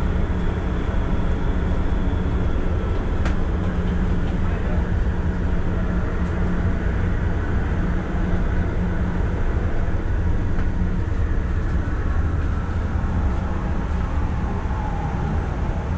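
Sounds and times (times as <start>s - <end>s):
faint whine: 0.0s - 15.9s
low hum: 0.0s - 15.9s
people mover train rumble: 0.0s - 15.9s.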